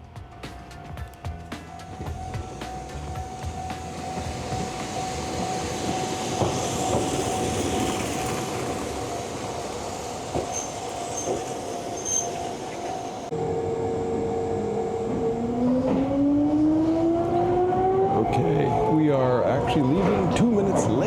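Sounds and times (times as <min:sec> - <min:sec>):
rail rumble: 0:00.2 - 0:21.0.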